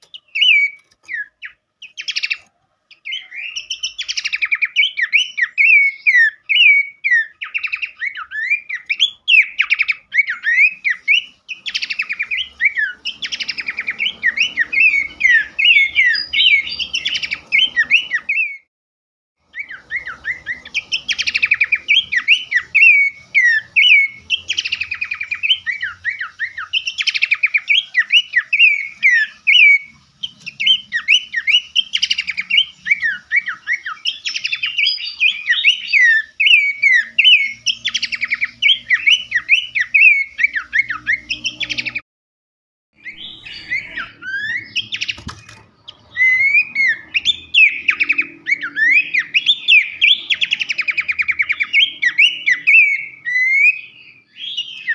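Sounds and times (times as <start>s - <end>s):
songbird chirping and whistling: 0.0s - 18.7s, 19.4s - 42.0s, 43.0s - 54.9s.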